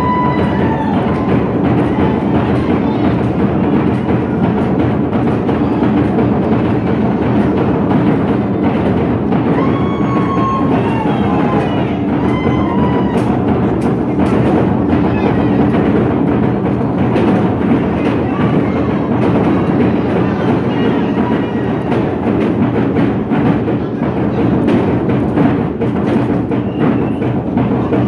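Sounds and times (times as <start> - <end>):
large drum beating rhythm: 0.0 - 28.0.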